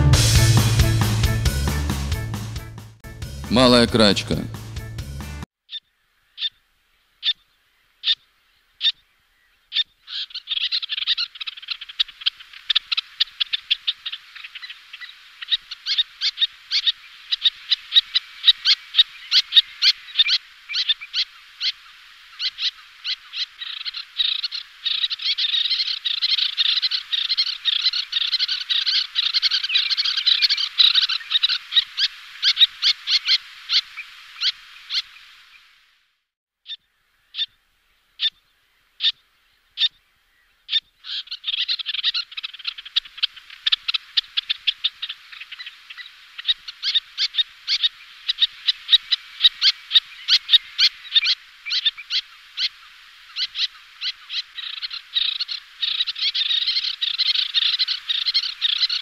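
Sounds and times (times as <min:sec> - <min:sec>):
terns calling: 0:05.7 - 0:35.9, 0:36.6 - 0:59.0.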